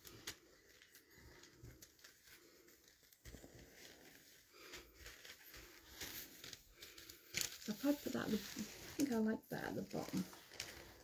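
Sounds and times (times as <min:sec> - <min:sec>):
fabric rustling: 0:00.0 - 0:11.0.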